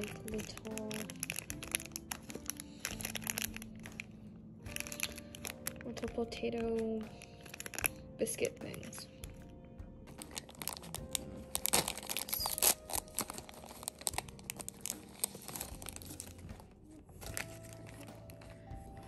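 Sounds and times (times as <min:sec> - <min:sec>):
snack wrapper tearing and crinkling: 0:00.0 - 0:05.9, 0:07.1 - 0:08.0, 0:10.2 - 0:18.6.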